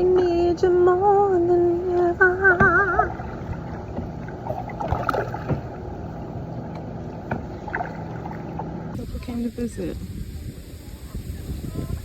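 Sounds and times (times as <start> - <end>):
water splashing around kayak: 1.5 - 12.0.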